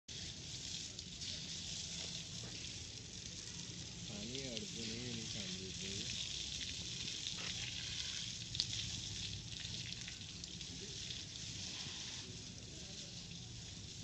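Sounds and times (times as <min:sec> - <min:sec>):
steady hissing noise: 0:00.1 - 0:14.0.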